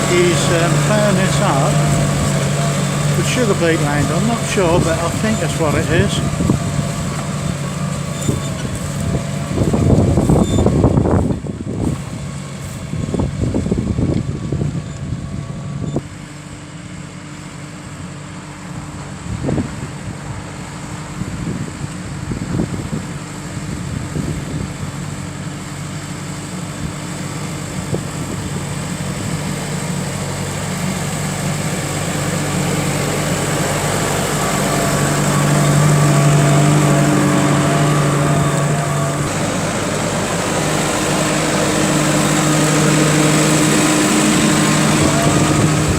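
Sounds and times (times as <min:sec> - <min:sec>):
tractor engine running under load: 0:00.0 - 0:45.9.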